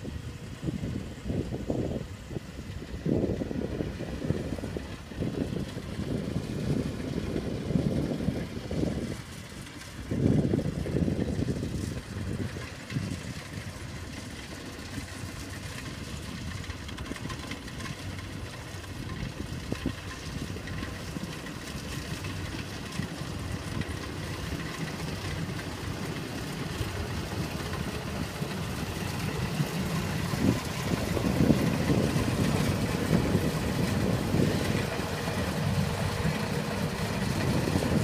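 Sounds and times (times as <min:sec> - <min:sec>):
combine harvester engine rumbling: 0:00.0 - 0:38.0.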